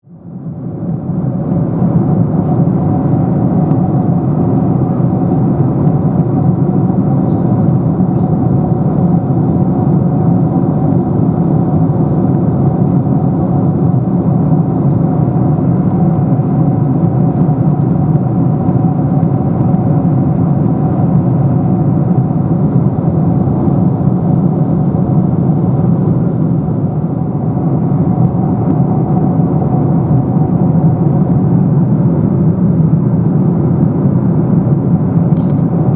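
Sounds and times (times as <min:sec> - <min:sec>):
jet engine cabin rumble: 0:00.0 - 0:35.9.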